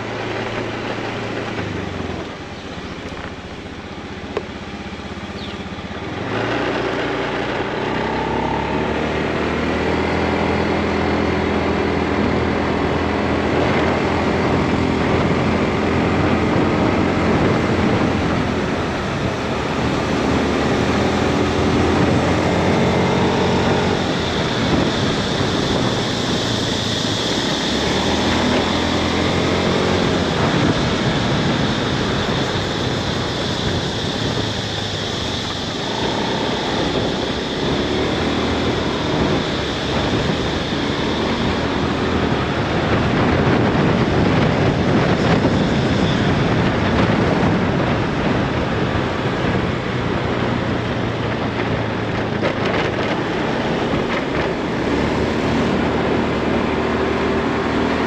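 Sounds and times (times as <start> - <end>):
motorbike engine revving: 0.0 - 58.0
wind and road noise: 0.0 - 58.0.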